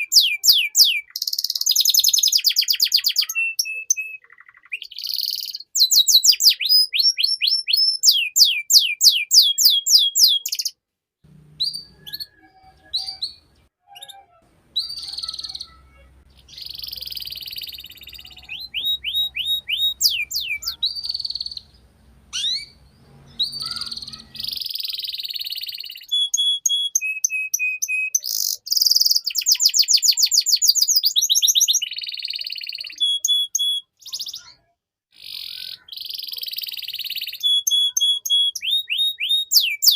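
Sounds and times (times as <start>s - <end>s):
canary singing: 0.0s - 34.6s, 35.2s - 39.9s.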